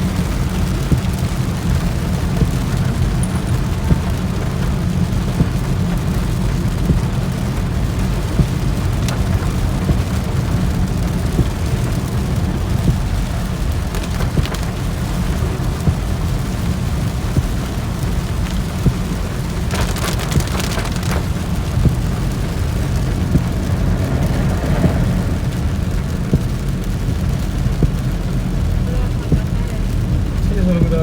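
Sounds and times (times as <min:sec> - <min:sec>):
car low rumble: 0:00.0 - 0:31.0
heavy rain on a car: 0:00.0 - 0:31.0.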